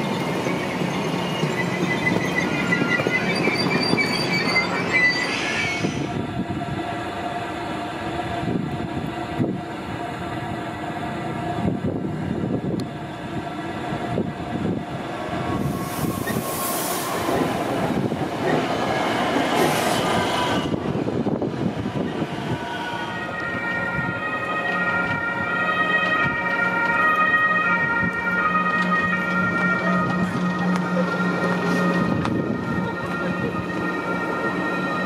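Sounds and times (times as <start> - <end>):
train rail and wheel noise: 0.0 - 35.0.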